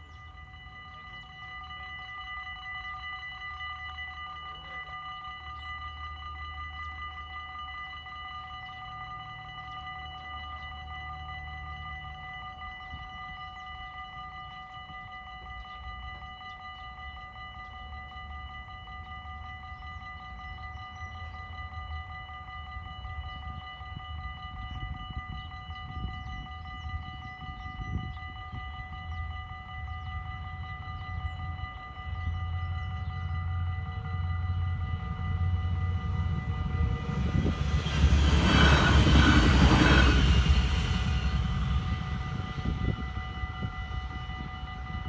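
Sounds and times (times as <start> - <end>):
level crossing warning bells: 0.0 - 45.0
train engine and wheel noise: 0.0 - 45.0.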